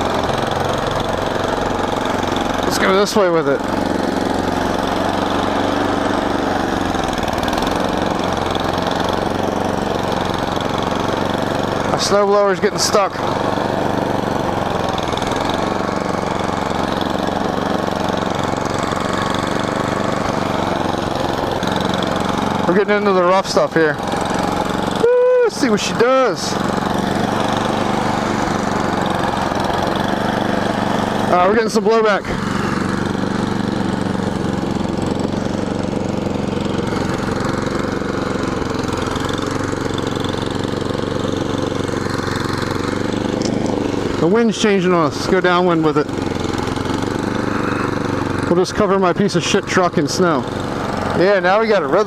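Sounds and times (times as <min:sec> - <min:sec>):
snowblower engine running: 0:00.0 - 0:52.0.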